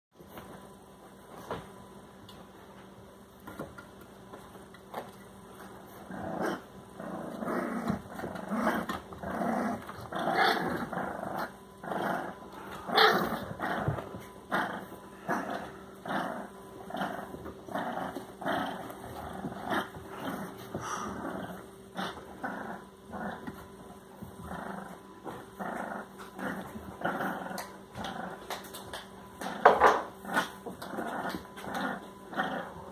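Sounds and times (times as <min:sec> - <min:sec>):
puppy growling: 0:04.9 - 0:32.9.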